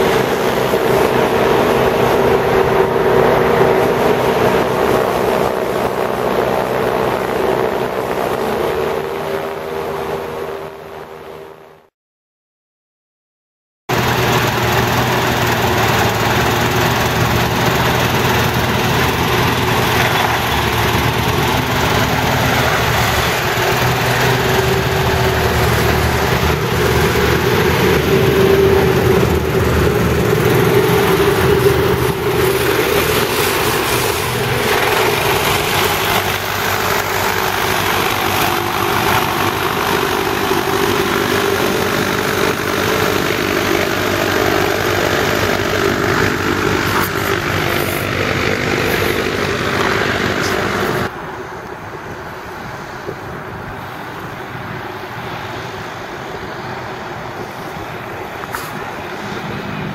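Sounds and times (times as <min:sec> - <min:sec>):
hovercraft engine and propeller: 0:00.0 - 0:11.9, 0:13.9 - 0:59.9.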